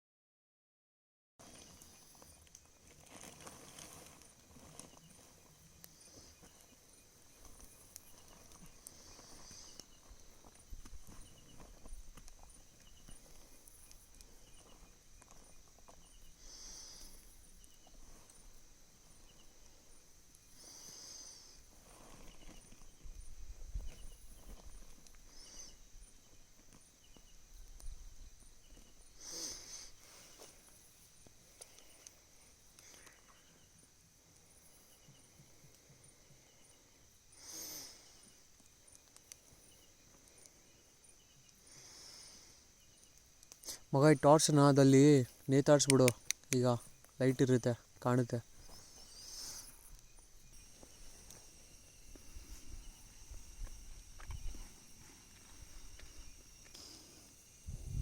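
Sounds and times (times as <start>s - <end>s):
cricket trill: 1.4s - 58.0s
insect chirps: 1.4s - 58.0s
insect buzzing: 1.5s - 58.0s.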